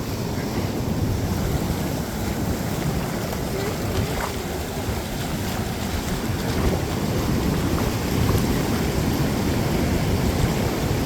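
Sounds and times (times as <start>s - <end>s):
ocean surf washing on beach: 0.0s - 11.0s
wind buffeting microphone: 0.0s - 11.0s.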